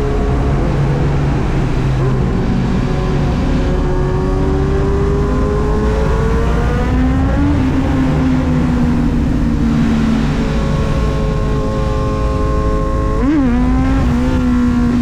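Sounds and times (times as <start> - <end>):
motorcycle engine accelerating: 0.0 - 15.0
steady rushing noise: 0.0 - 15.0.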